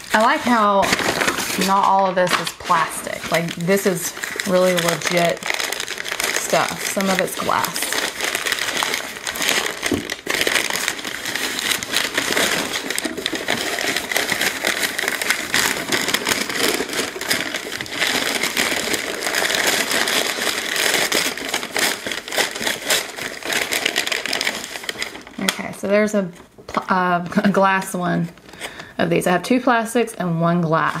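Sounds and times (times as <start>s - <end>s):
packing paper rustling: 0.0s - 26.8s.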